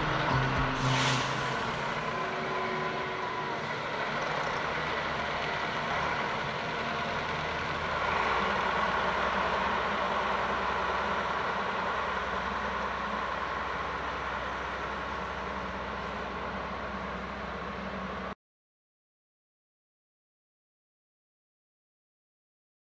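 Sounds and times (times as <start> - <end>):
diesel engines droning: 0.0 - 18.4.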